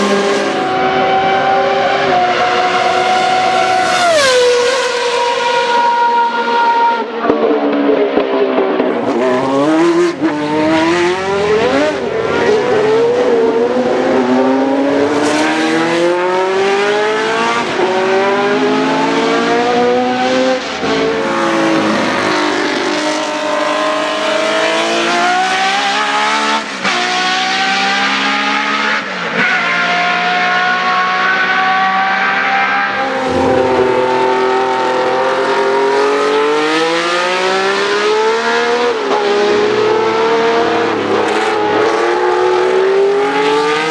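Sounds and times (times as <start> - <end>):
racing car engines at high revs: 0.0 - 43.9.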